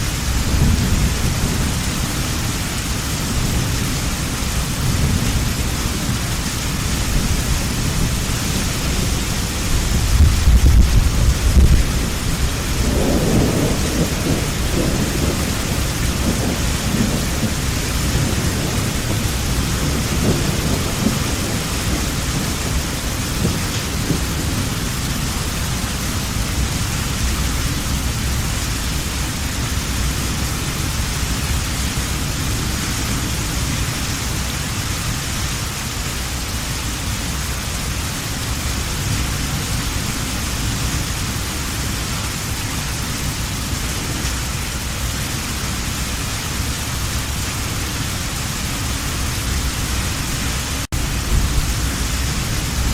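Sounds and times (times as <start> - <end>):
thunder rumbling: 0.0 - 35.3, 38.4 - 52.9
hard rain: 0.0 - 52.9.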